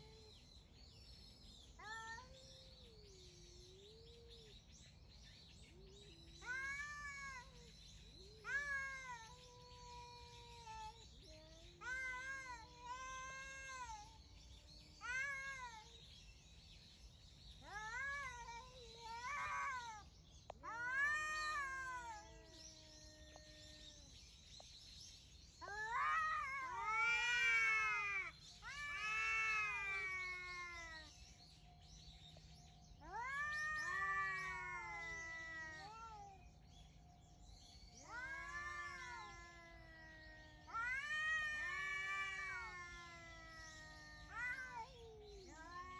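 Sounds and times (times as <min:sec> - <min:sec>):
cats yowling: 0:01.8 - 0:04.5, 0:05.7 - 0:16.1, 0:17.6 - 0:24.6, 0:25.6 - 0:31.4, 0:32.9 - 0:37.0, 0:37.9 - 0:45.9.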